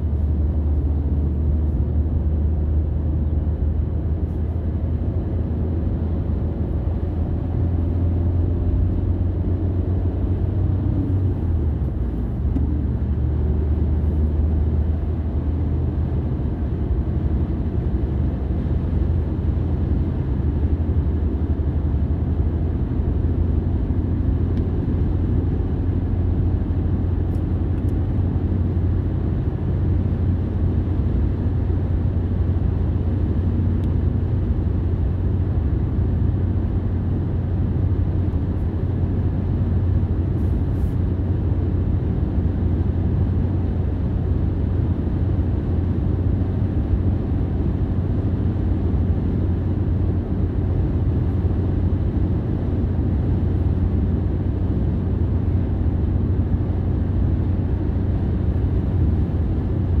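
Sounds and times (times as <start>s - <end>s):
car engine and road noise: 0.0s - 60.0s.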